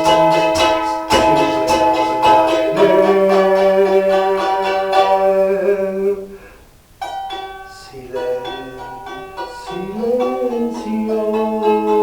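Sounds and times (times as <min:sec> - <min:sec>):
charango strumming: 0:00.0 - 0:12.0.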